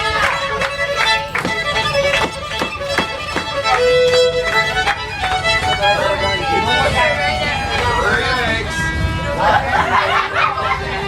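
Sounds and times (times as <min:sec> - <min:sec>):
fiddle bowed notes: 0:00.0 - 0:11.0.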